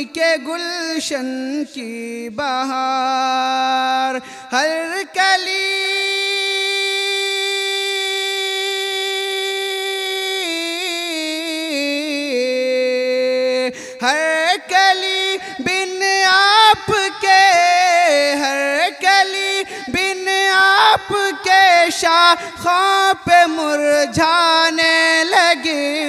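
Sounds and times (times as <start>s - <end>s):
person singing devotional melody: 0.0s - 26.0s.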